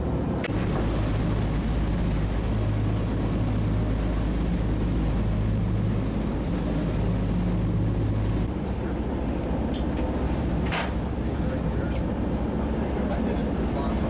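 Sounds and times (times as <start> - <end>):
boat engines droning: 0.0 - 14.0
churning wake: 0.0 - 14.0.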